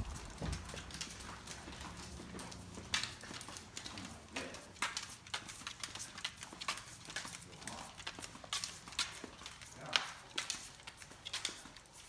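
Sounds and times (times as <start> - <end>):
dog toenails clicking on floor: 0.0 - 12.0.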